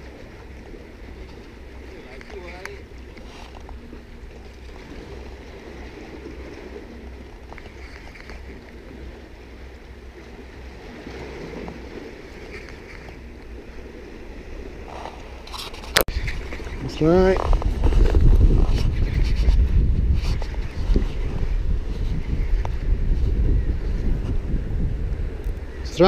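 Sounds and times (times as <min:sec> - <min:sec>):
sea water: 0:00.0 - 0:26.0
wind: 0:00.0 - 0:26.0.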